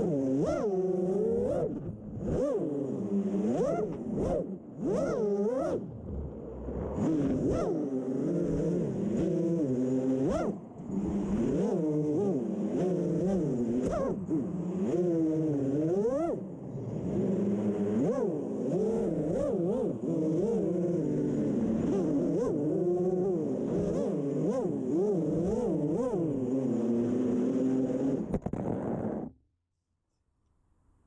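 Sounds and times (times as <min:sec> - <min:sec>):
quadcopter motors whining: 0:00.0 - 0:28.3.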